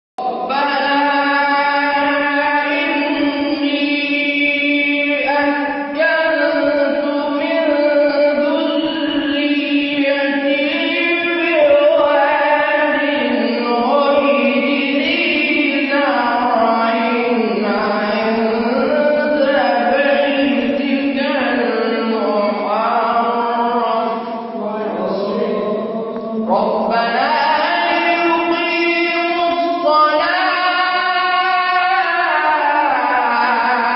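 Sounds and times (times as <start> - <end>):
man reciting melodically: 0.2 - 33.9.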